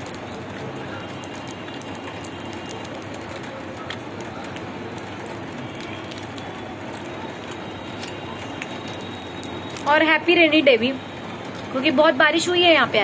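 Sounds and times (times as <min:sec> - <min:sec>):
chocolate wrapper crinkling: 0:00.0 - 0:12.7.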